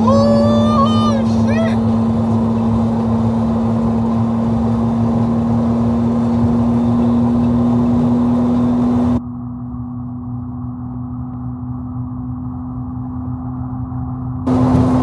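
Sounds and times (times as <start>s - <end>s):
car engine and exhaust droning: 0.0s - 15.0s
road noise: 0.0s - 15.0s.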